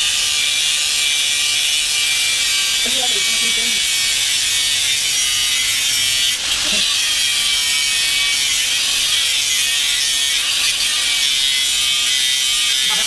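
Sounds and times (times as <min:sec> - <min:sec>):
power tool high buzzing whine: 0:00.0 - 0:13.0.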